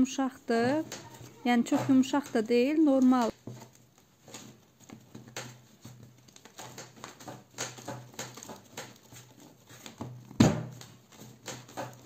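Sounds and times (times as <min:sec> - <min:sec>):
hands kneading paste: 0:00.5 - 0:12.0.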